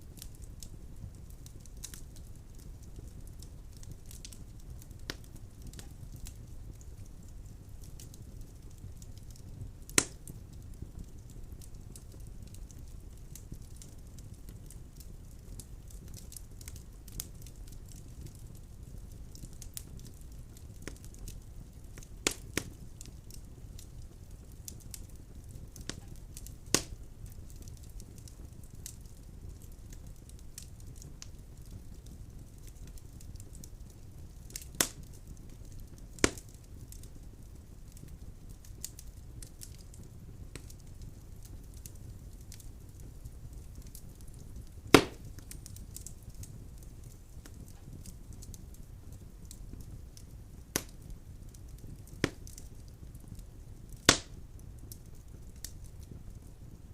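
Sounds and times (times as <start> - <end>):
low rumble of flame: 0.0 - 56.9
logs cracking and popping: 0.1 - 56.8.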